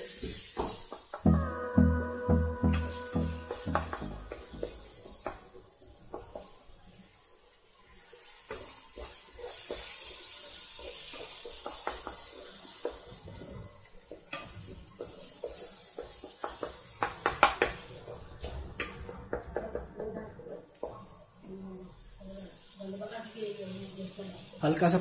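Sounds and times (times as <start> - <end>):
paste sizzling in oil: 0.0 - 18.7, 20.7 - 25.0.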